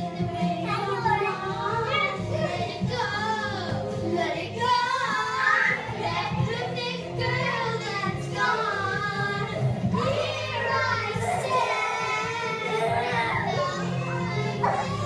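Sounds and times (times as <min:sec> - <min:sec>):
girls singing into microphone: 0:00.0 - 0:15.0.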